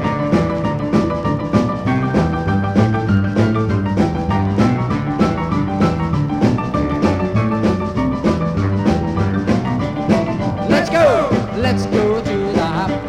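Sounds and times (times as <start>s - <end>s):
drums keeping steady beat: 0.0s - 13.0s
rock and roll band playing: 0.0s - 13.0s.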